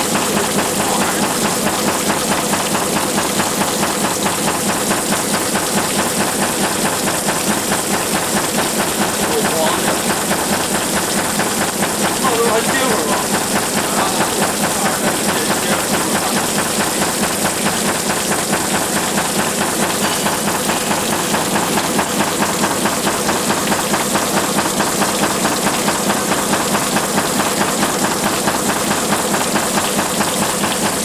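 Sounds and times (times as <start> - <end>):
slurry and water washing: 0.0 - 31.0.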